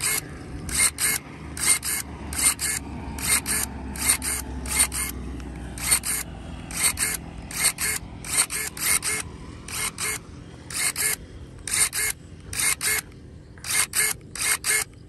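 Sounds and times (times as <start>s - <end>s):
electric pruning shears snipping: 0.0s - 15.0s.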